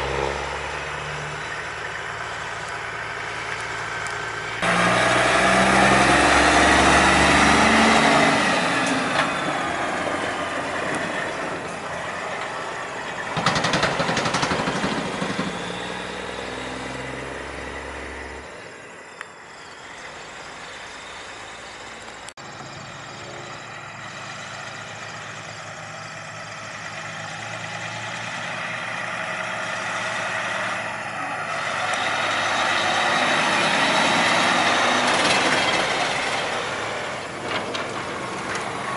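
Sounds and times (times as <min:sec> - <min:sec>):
truck diesel engine passing: 0:00.0 - 0:38.9
truck engine approaching: 0:00.0 - 0:38.9.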